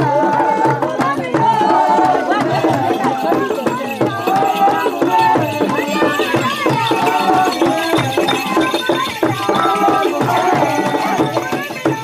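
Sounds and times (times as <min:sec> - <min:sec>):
music with percussion: 0:00.0 - 0:12.0
several voices singing: 0:00.0 - 0:12.0.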